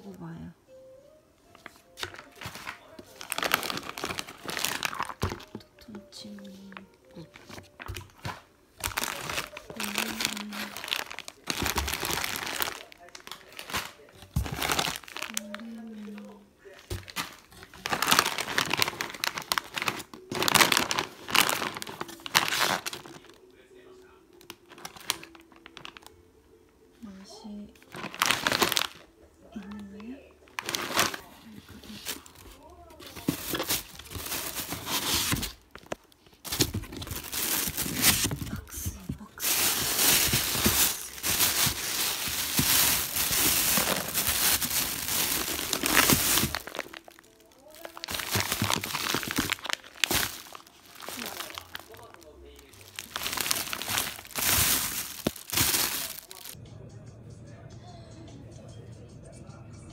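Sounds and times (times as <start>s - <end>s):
plastic packets crinkling: 1.5s - 23.4s, 24.4s - 26.2s, 27.8s - 56.6s.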